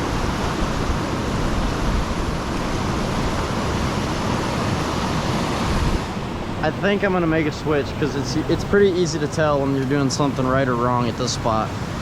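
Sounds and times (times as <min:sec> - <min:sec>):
floodwater roaring through spillway: 0:00.0 - 0:12.0.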